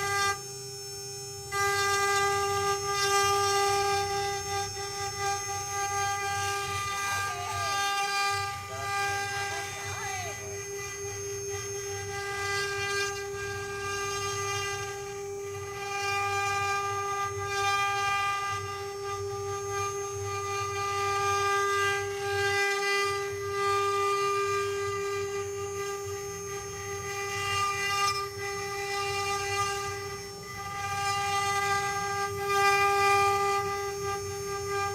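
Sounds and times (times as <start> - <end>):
router cutting wood: 0.0 - 34.9
router spindle whine: 0.0 - 34.9.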